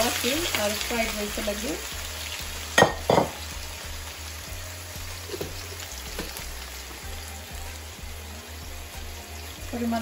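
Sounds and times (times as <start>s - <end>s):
onion sizzling in hot oil: 0.0s - 10.0s.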